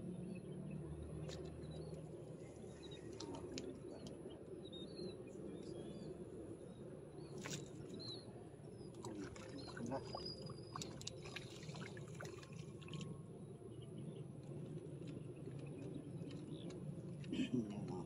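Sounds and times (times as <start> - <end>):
small birds chirping: 0.2 - 13.0, 13.7 - 18.0.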